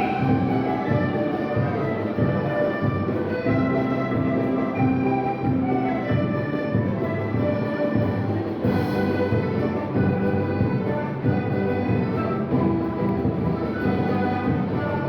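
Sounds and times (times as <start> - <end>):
orchestra playing live: 0.0 - 15.0.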